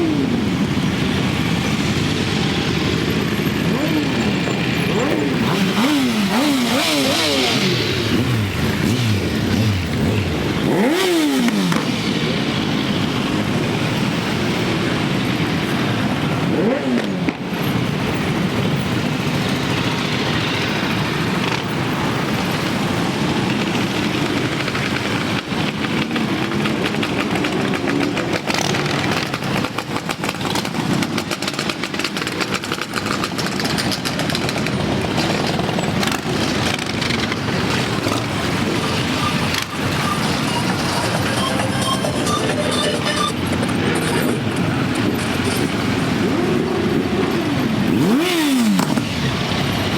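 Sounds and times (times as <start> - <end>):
motorcycle engines revving: 0.0 - 49.9
motorcycles riding past: 0.0 - 49.9.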